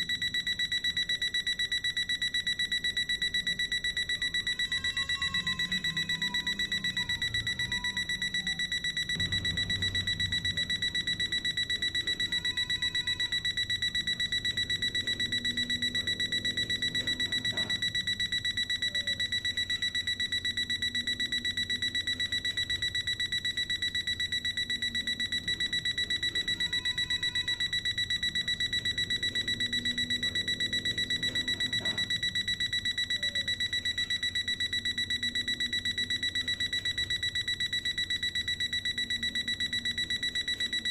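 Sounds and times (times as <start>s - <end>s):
alarm clock beeping: 0.0s - 40.9s.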